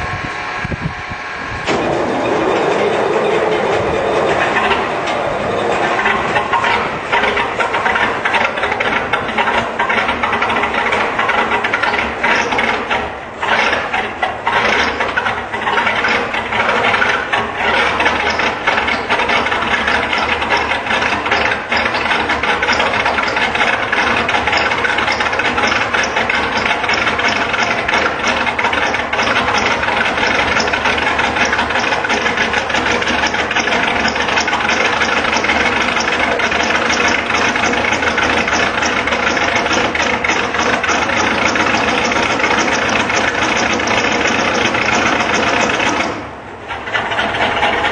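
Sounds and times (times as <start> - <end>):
diesel engine clattering: 0.0 - 47.9.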